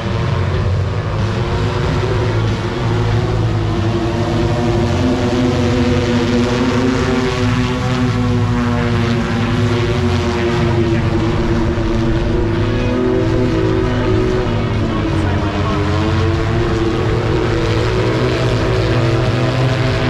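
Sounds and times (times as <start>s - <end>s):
electric propellers droning: 0.0s - 20.0s.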